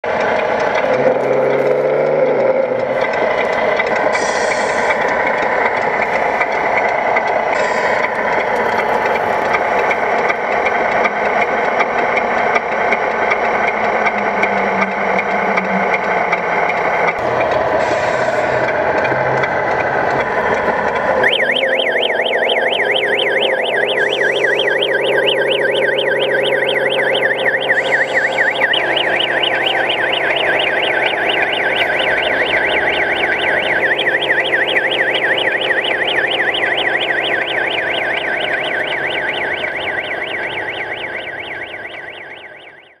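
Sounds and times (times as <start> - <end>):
diesel engine hum: 0.0 - 43.0
electronic warbling siren: 0.6 - 10.0, 12.5 - 43.0.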